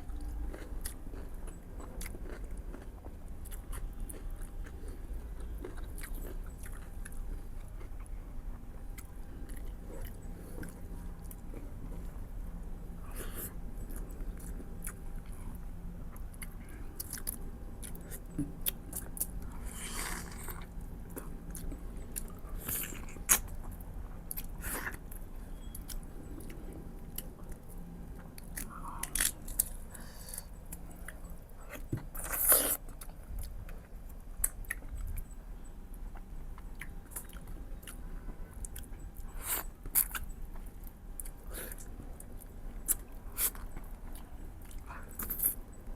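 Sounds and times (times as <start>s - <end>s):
person chewing and biting ribs: 0.1s - 12.2s, 16.1s - 35.3s, 38.6s - 45.7s.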